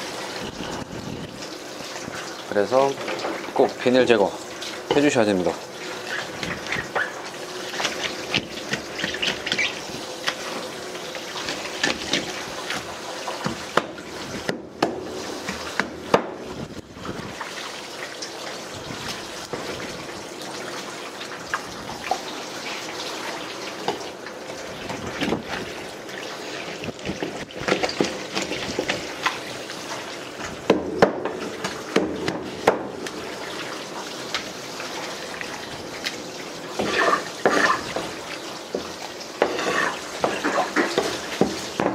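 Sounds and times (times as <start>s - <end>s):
faucet running water: 0.0s - 41.9s.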